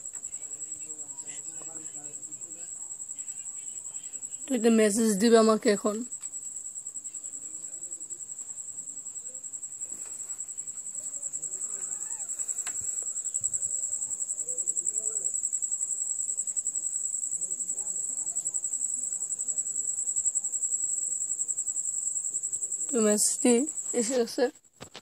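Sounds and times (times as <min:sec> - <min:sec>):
faint voices: 0:00.0 - 0:24.5
cricket trilling: 0:00.0 - 0:24.9.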